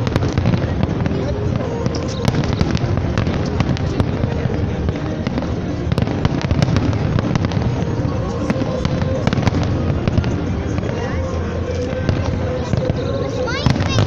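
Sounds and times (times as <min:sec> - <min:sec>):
fireworks bursting and crackling: 0:00.0 - 0:14.0.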